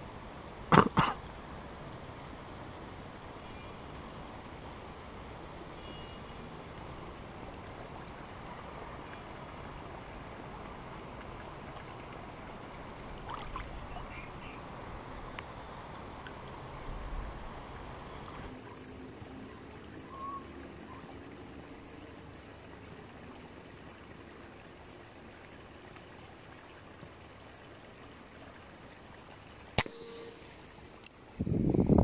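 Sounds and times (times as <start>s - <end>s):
flowing river water: 0.0s - 32.0s.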